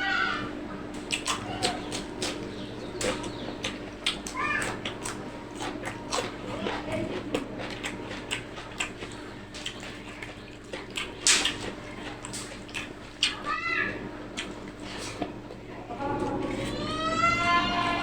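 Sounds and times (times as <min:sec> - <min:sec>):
food crunching: 0:00.8 - 0:18.0
chewing and lip smacks: 0:00.9 - 0:15.7.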